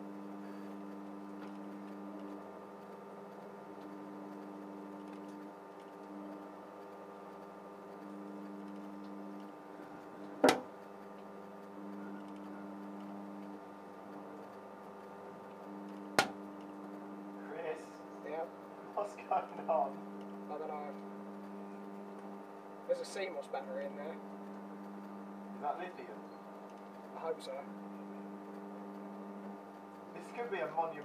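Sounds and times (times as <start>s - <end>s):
microwave oven hum: 0.0s - 31.0s.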